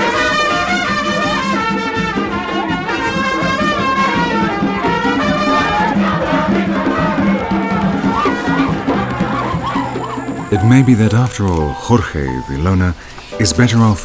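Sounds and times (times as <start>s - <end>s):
wavering horn-like melodies: 0.0s - 14.0s.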